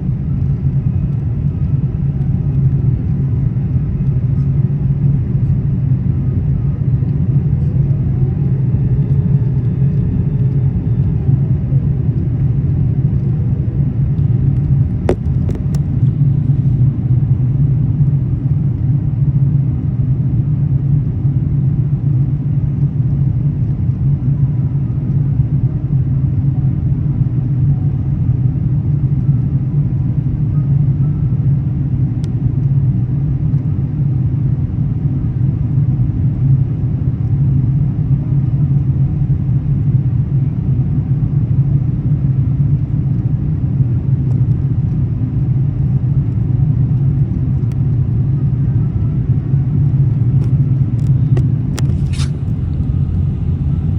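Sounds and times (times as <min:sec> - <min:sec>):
faint whine: 0:00.0 - 0:53.9
jet engine rumble: 0:00.0 - 0:53.9.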